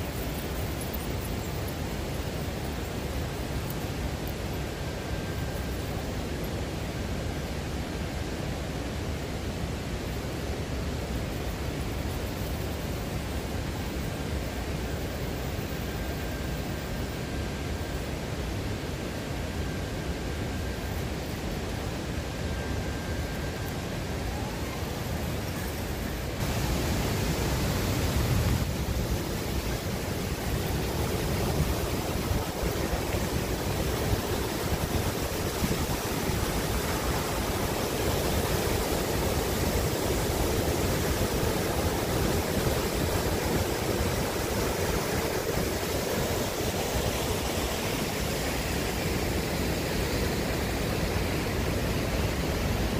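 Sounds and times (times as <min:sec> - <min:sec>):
waterfall and river rapids rushing: 0:00.0 - 0:52.9.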